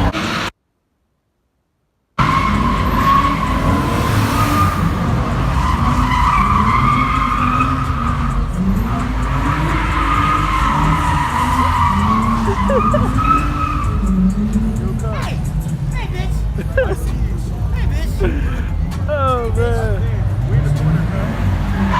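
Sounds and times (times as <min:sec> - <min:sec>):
car engine revving: 0:00.0 - 0:00.5, 0:02.2 - 0:21.9
car tyres squealing: 0:02.2 - 0:16.0, 0:18.0 - 0:21.9.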